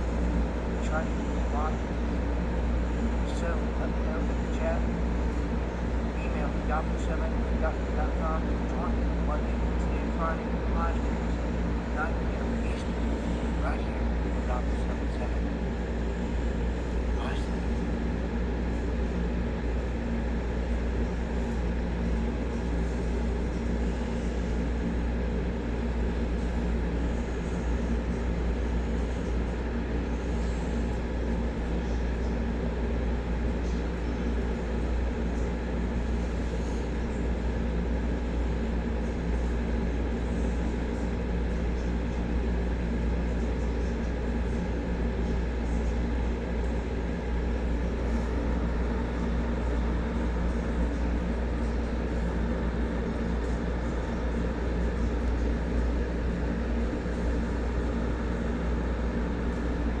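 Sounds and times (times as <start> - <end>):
constant hum: 0.0 - 60.0.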